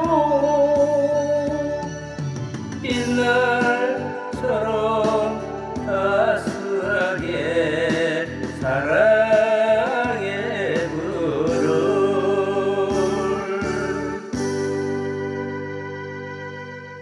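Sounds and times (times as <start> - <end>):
person singing a love song: 0.0 - 16.0
instrumental backing: 0.0 - 17.0.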